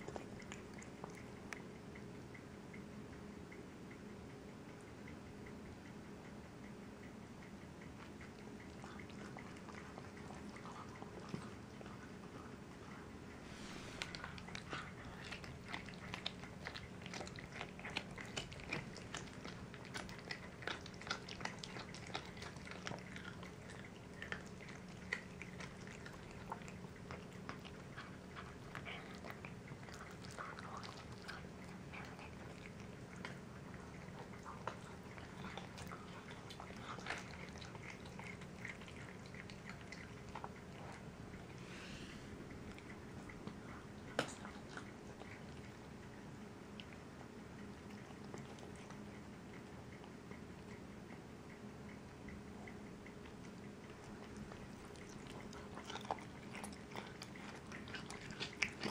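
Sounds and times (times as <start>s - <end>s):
cat crunching on bones: 0.0s - 2.6s, 7.2s - 58.9s.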